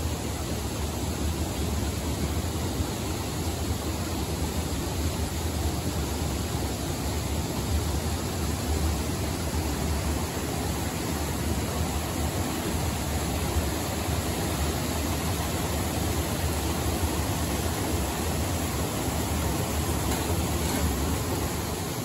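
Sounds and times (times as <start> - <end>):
water rushing over weir: 0.0 - 22.0.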